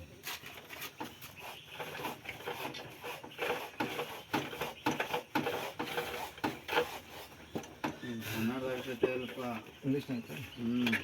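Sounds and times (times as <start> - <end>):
rubbing and scraping on tyre: 0.2 - 11.0.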